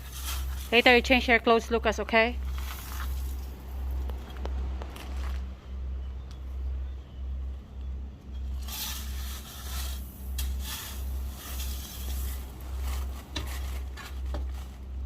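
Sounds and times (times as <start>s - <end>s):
gritty scraping: 0.0s - 5.6s, 8.2s - 15.0s.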